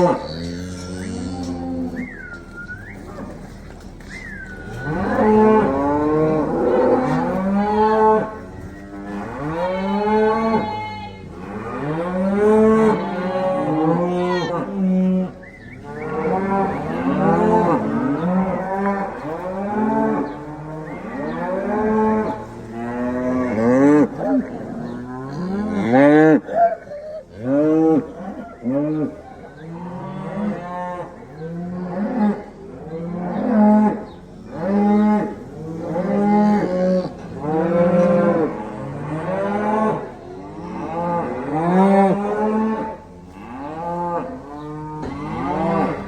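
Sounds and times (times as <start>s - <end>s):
cows mooing and bawling: 0.0s - 46.0s.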